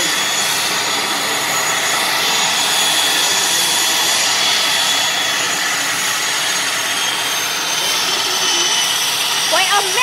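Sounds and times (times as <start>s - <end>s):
high-pitched engine whine: 0.0s - 10.0s
turboprop engines running: 0.0s - 10.0s.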